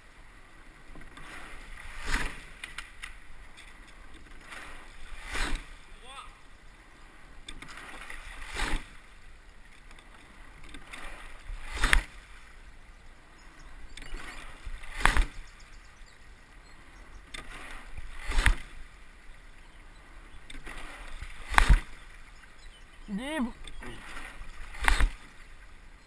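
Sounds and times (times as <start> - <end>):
oar stroke knock with water rush: 0.0 - 12.8, 13.4 - 26.0.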